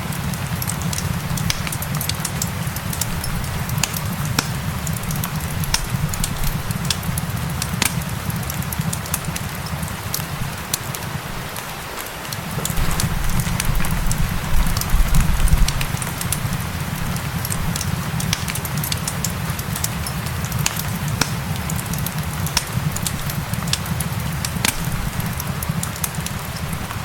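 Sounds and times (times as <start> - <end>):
low rumble of fire: 0.0 - 27.0
rain hissing: 0.0 - 27.0
wood fire crackling and popping: 0.0 - 27.0.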